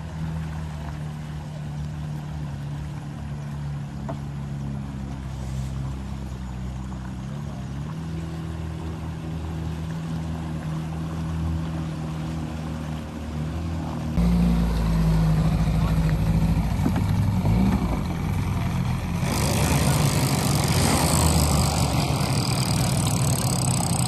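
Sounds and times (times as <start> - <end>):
outboard motor running: 0.0 - 24.0
water rushing along hull: 0.0 - 24.0.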